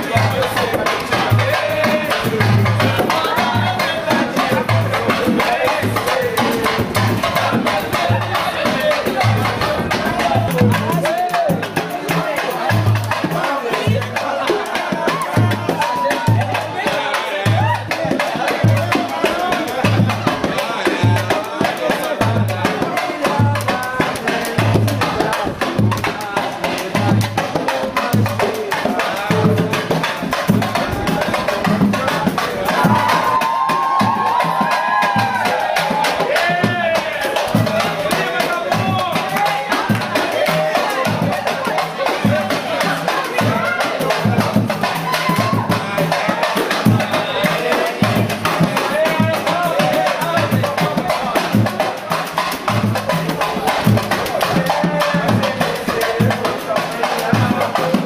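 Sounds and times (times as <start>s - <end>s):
deep drum beats: 0.0s - 58.0s
hand percussion clatter: 0.0s - 58.0s
people singing: 0.0s - 58.0s.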